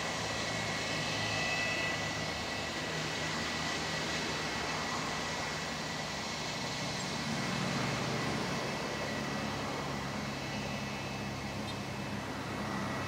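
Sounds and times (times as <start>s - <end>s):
high engine whine: 0.0s - 13.0s
jet engines low hum: 0.0s - 13.0s.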